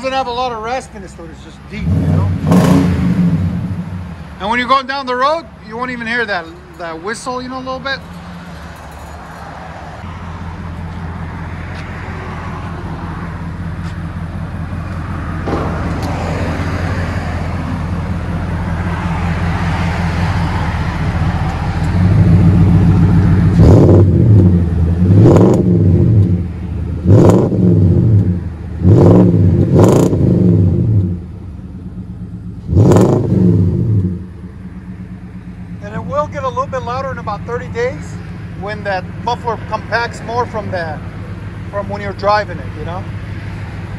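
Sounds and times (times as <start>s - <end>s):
truck engine idling and revving: 0.0s - 43.9s.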